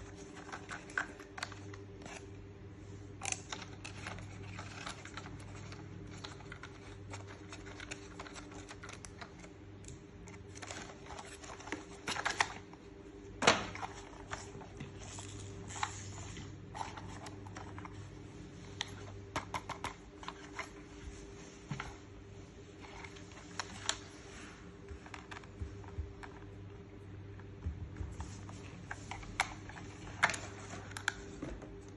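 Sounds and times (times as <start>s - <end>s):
plastic toy and packaging handled: 0.0s - 2.4s, 3.1s - 21.2s, 22.8s - 26.6s, 28.1s - 31.8s.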